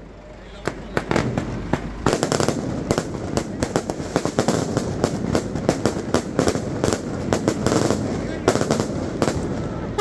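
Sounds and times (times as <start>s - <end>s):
fireworks bangs and cracks: 0.6s - 10.0s.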